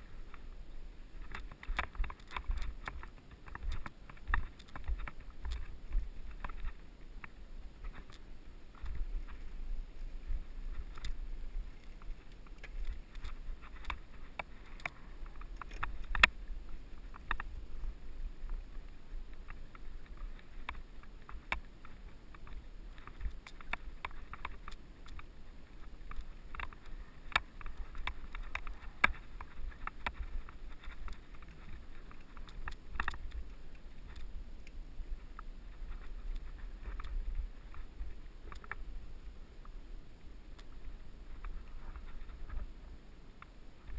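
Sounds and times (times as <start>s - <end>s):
bike clicks and rattles: 1.2s - 38.9s.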